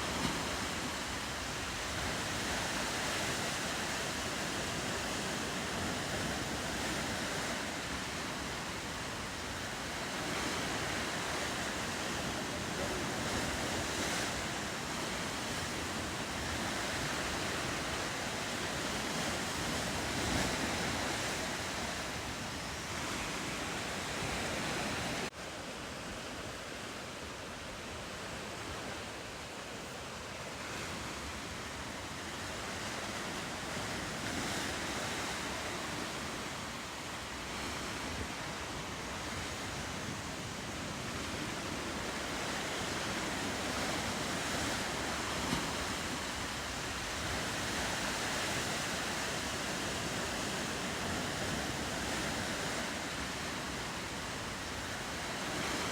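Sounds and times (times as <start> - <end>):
ocean surf: 0.0 - 55.9
wind: 0.0 - 55.9.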